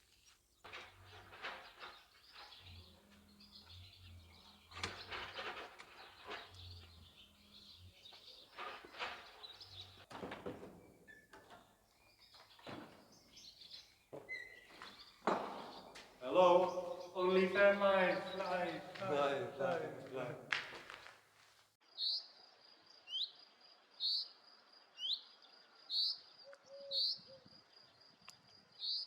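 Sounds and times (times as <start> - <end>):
small birds chirping: 0.0 - 10.1, 10.7 - 20.3, 21.9 - 29.0
outdoor background noise: 0.0 - 29.0.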